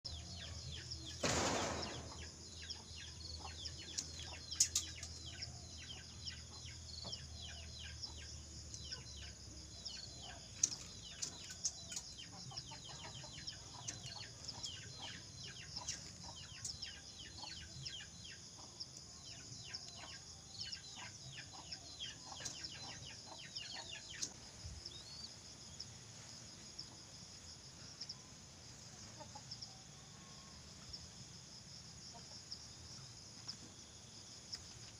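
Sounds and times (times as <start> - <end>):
high insect trill: 0.1 - 34.9.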